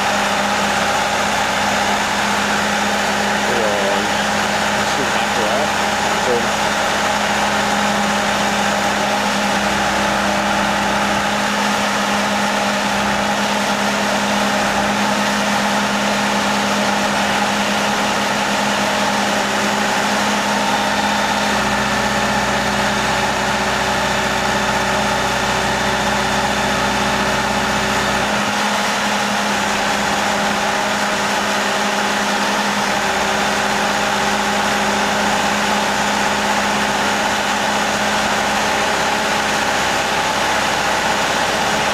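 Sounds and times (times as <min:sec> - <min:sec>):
boat hoist engine running: 0:00.0 - 0:41.9.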